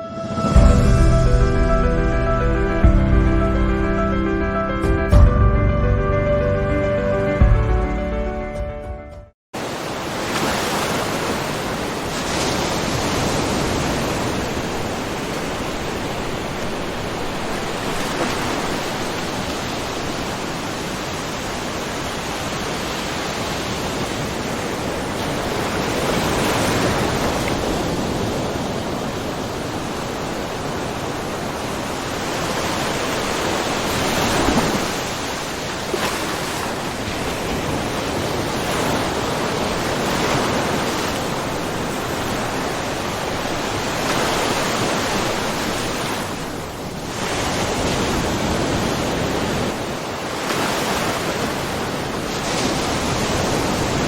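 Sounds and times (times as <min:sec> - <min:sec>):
small waves splashing on shore: 0:09.6 - 0:54.0.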